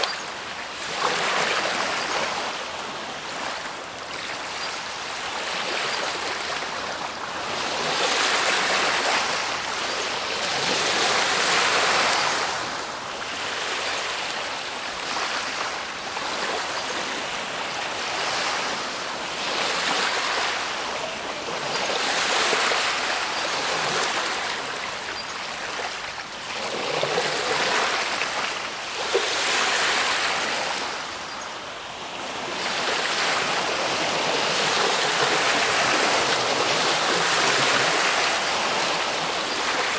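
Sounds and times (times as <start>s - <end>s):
waves washing in and out: 0.0s - 39.9s.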